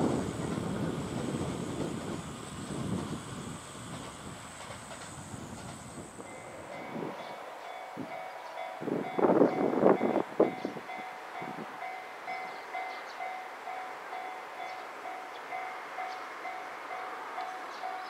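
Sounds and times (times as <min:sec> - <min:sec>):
low rumble of approaching train: 0:00.0 - 0:18.0.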